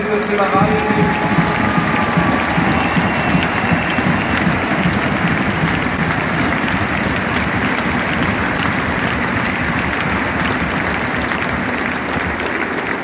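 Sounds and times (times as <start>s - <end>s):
stadium crowd applauding: 0.0s - 13.0s.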